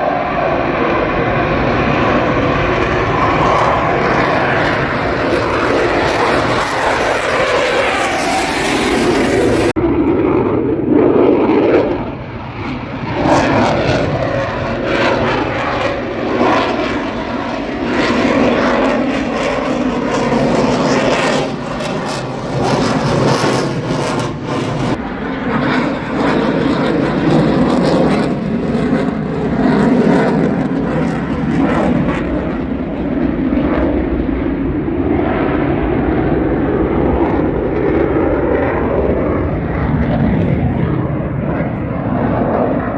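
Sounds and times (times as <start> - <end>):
airplane engine flyover: 0.0 - 42.9.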